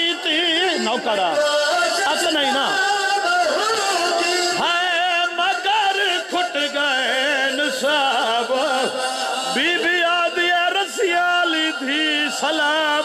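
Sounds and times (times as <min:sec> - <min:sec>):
man singing a wailing lament: 0:00.0 - 0:13.0.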